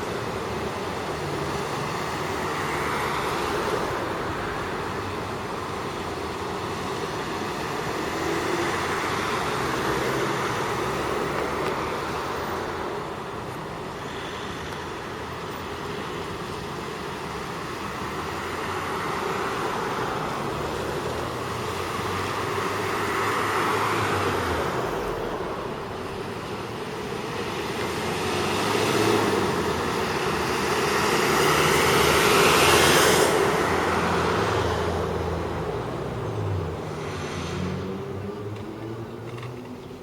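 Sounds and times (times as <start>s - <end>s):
road traffic passing: 0.0s - 40.0s.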